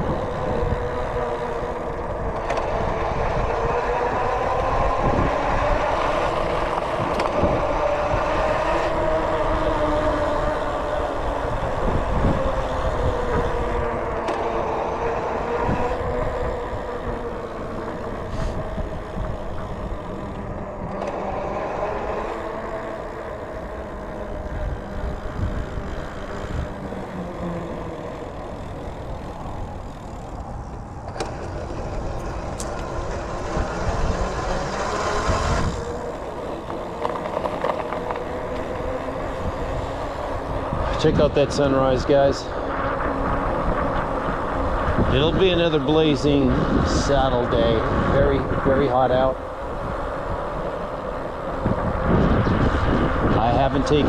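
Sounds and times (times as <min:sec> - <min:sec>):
road and wind noise: 0:00.0 - 0:54.0
vehicle engine driving: 0:00.0 - 0:54.0.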